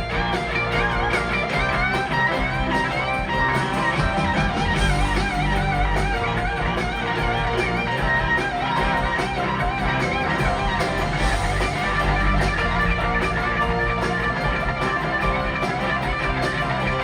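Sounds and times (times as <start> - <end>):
bass guitar: 0.0 - 17.0
drums: 0.0 - 17.0
electric guitar solo: 0.0 - 17.0.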